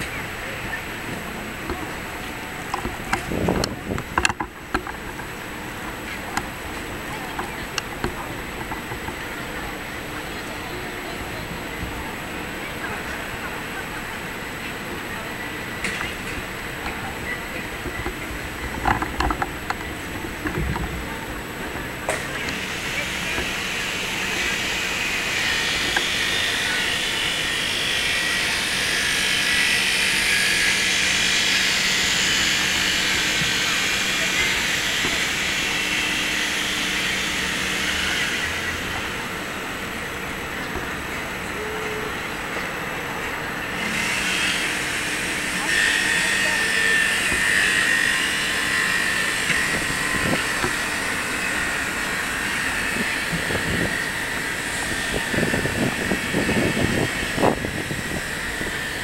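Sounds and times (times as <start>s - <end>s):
continuous drone: 0.0s - 59.0s
high steady whine: 0.0s - 59.0s.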